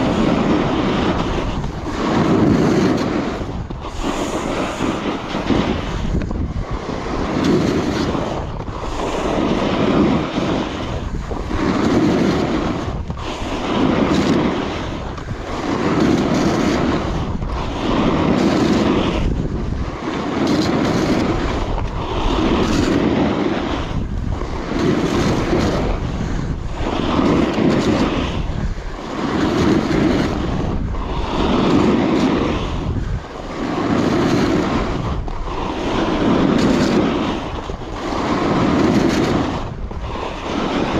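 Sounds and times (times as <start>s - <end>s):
snowboard edge rasping on snow: 0.0s - 40.9s
wind noise on microphone: 0.0s - 40.9s.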